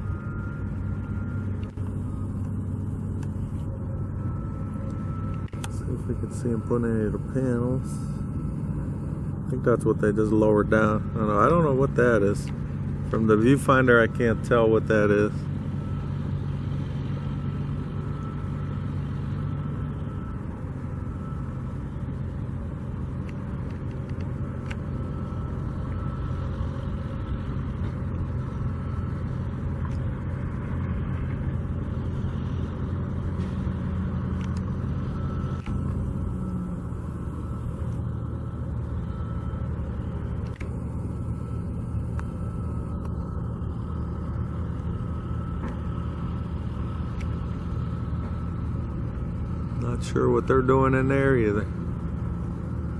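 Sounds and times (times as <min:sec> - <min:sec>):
faint steady whine: 0:00.0 - 0:52.9
low engine rumble: 0:00.0 - 0:52.9.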